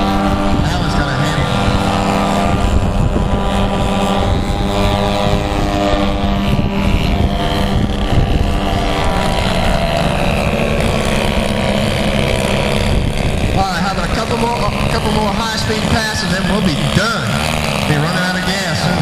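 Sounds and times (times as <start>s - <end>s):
model airplane engines droning: 0.0s - 19.0s.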